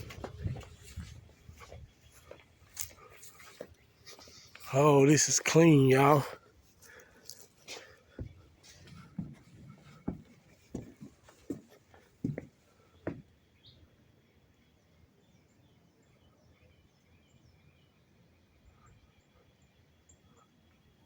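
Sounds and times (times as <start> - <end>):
faint bird chirping: 0.0 - 21.0.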